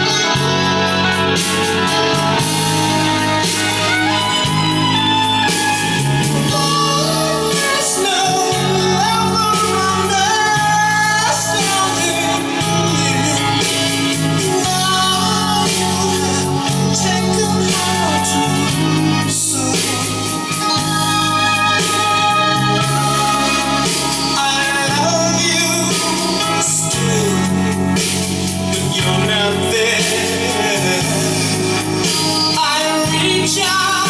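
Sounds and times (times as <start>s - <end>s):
bass line: 0.0s - 34.0s
guitar: 0.0s - 34.0s
person singing: 0.0s - 34.0s.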